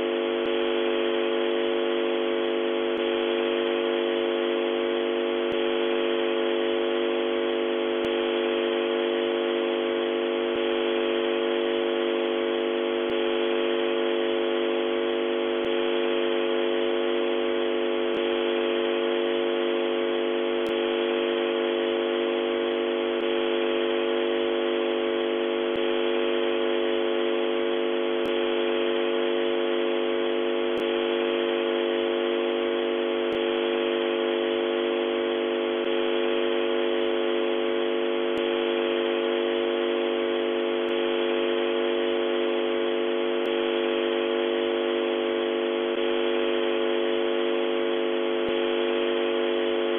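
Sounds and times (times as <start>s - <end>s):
electronic hum of held tones: 0.0s - 49.9s.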